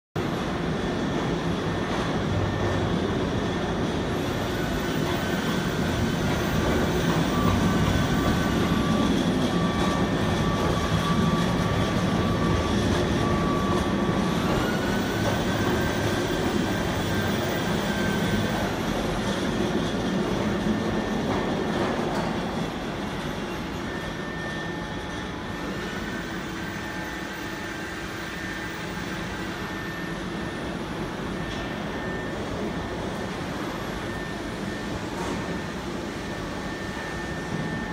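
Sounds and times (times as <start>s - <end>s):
high spindle whine: 0.2s - 37.9s
machine rumble and hiss: 0.2s - 37.9s.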